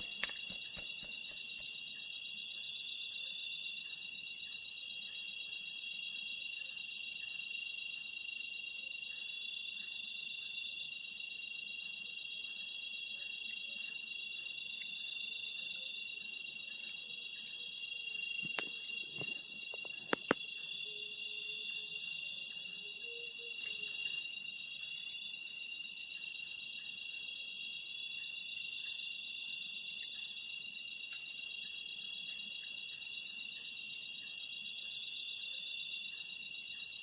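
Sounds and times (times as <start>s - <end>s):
night insects chirping: 0.0s - 37.0s.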